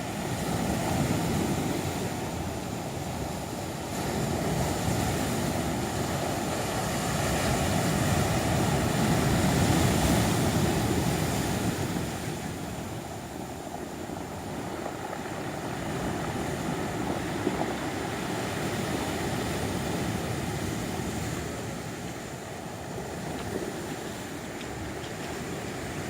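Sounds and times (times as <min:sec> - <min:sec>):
sea surf washing on shore: 0:00.0 - 0:26.0.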